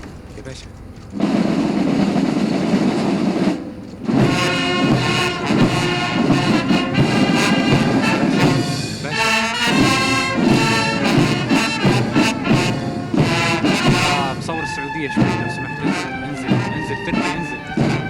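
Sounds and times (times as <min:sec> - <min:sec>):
brass band playing: 0:01.2 - 0:18.0.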